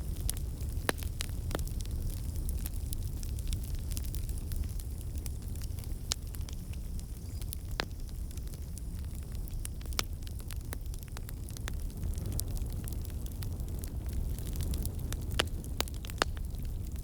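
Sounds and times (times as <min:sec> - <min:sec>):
sharp pops of burning wood: 0:00.0 - 0:06.6, 0:07.3 - 0:17.0
fire crackling in fireplace: 0:00.0 - 0:17.0.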